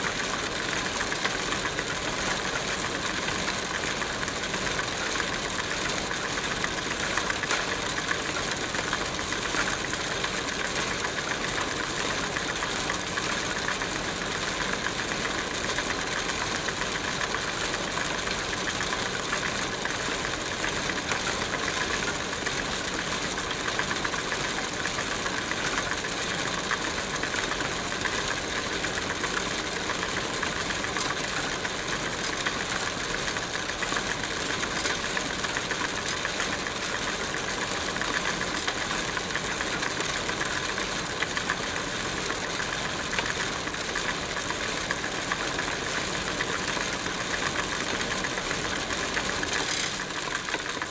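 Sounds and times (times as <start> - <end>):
bicycle ticking rattle: 0.0 - 50.9.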